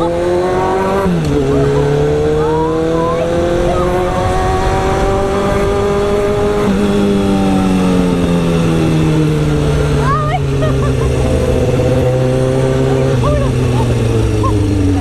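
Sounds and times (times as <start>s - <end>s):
motorcycle engine running: 0.0s - 15.0s
wind rush: 1.0s - 15.0s.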